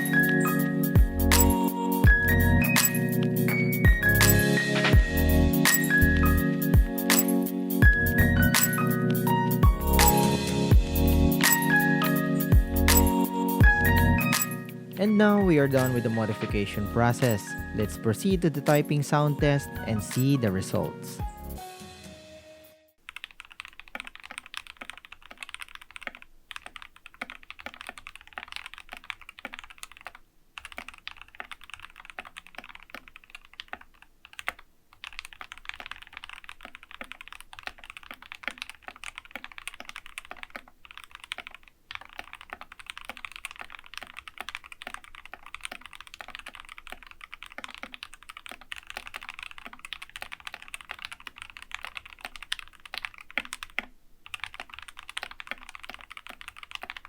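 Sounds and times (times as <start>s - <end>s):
keyboard typing clatter: 0.0s - 20.9s, 23.1s - 57.0s.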